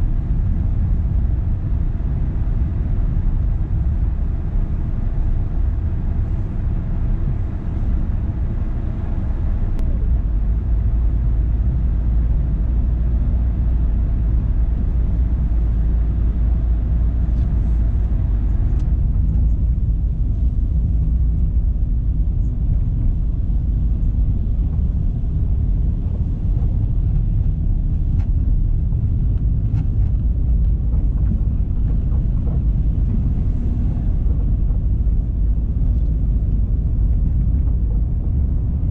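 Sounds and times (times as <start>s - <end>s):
tyres and engine rumble: 0.0s - 38.9s.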